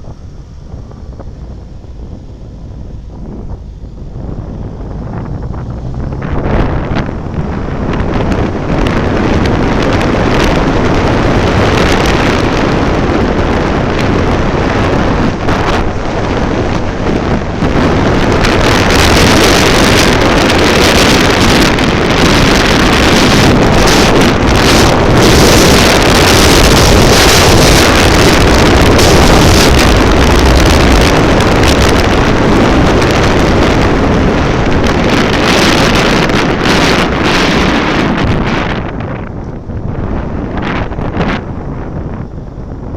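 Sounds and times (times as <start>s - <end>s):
road and engine noise: 0.0s - 42.9s
wind buffeting microphone: 0.0s - 42.9s.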